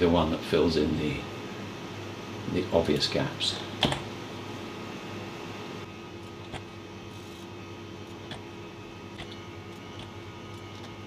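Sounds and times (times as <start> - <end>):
computer hum: 0.0 - 11.0.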